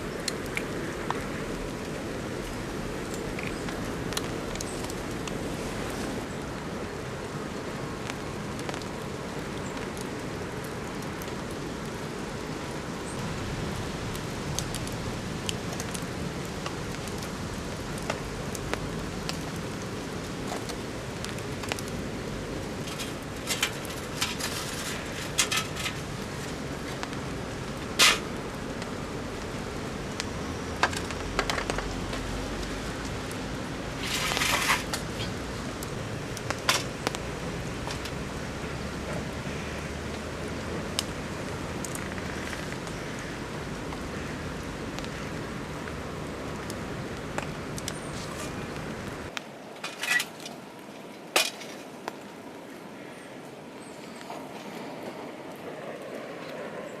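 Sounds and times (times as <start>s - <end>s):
steady rain: 0.0s - 57.0s
wood fire crackling: 0.0s - 57.0s.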